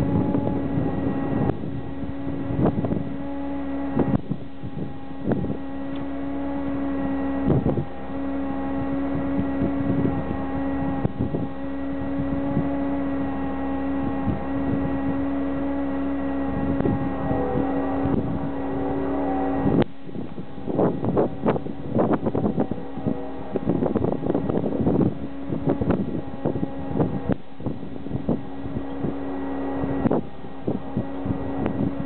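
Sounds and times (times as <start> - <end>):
engine idling hum: 0.0 - 32.0
wind buffeting microphone: 0.0 - 32.0.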